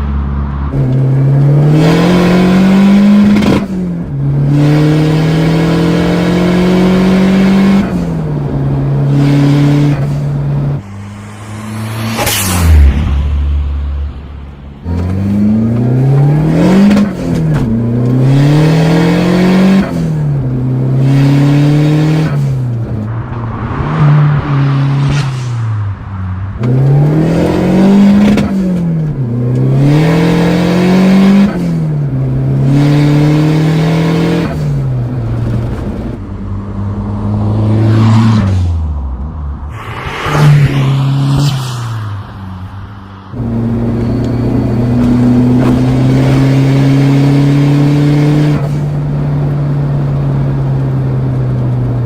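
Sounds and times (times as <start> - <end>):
turbocharged car engine accelerating: 0.0 - 52.0.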